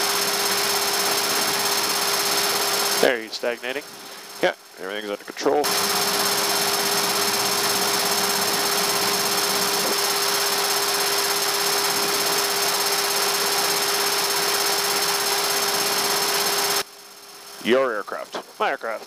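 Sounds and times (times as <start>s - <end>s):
cockpit air rush and engine noise: 0.0s - 19.0s
constant hum: 0.0s - 19.0s.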